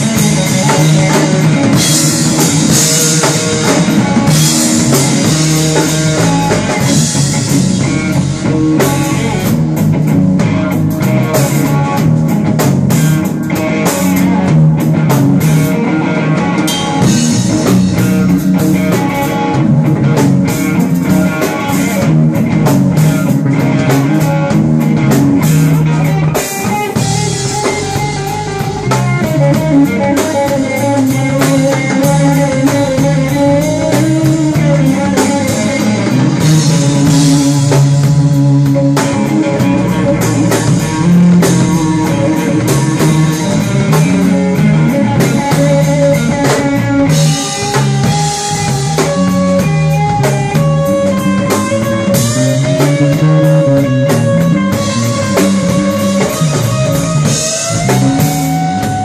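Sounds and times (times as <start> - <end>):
drum kit: 0.0 - 59.0
electric bass: 0.0 - 59.0
electric guitar lead with bent notes: 0.0 - 59.0.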